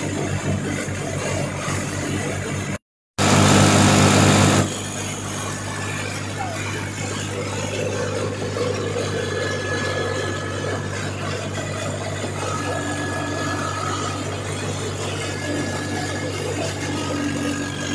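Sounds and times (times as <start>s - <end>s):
tractor diesel engine running: 0.0s - 17.9s
wheat thresher running: 0.0s - 17.9s.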